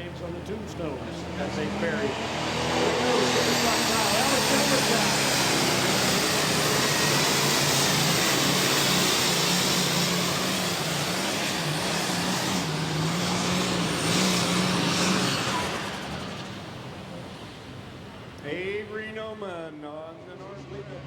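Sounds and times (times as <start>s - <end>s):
pulling tractor engine running hard: 0.0s - 20.8s.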